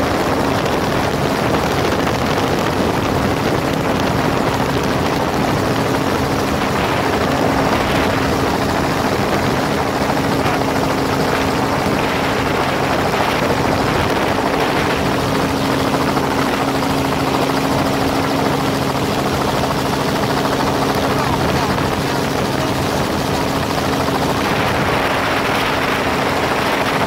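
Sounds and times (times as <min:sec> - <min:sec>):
helicopter hovering: 0:00.0 - 0:27.0.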